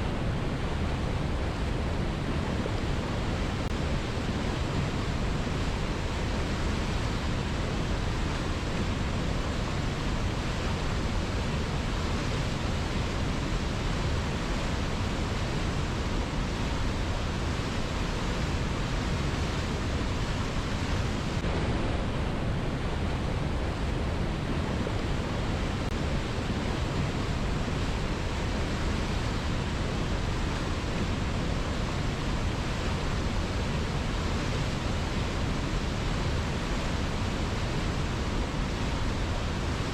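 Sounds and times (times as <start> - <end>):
river current rushing: 0.1 - 39.9.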